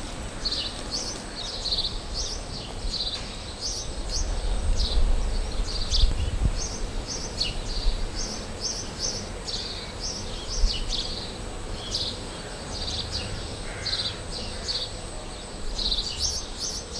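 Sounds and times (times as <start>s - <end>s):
faint high whine: 0.0s - 16.9s
small birds chirping: 0.3s - 16.9s.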